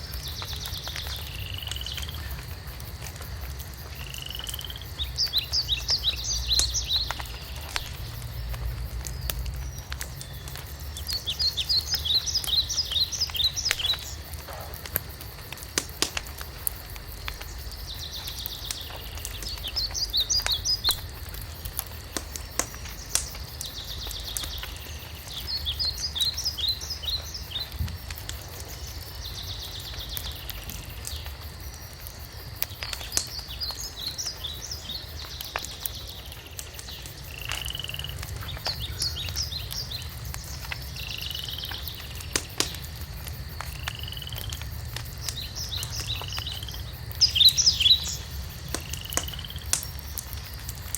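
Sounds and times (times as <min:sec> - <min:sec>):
songbird singing: 0:00.0 - 0:02.7, 0:04.0 - 0:14.7, 0:15.4 - 0:31.5, 0:32.1 - 0:43.0, 0:43.7 - 0:50.0
wood fire crackling and popping: 0:00.0 - 0:50.9.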